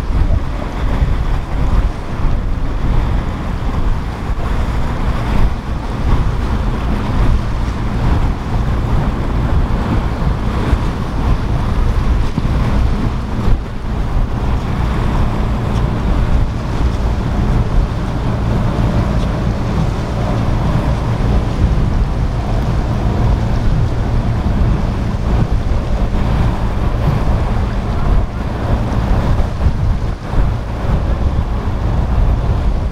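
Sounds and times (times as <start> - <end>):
boat engines droning: 0.0 - 32.9
surf: 0.0 - 32.9
wind buffeting microphone: 0.0 - 32.9.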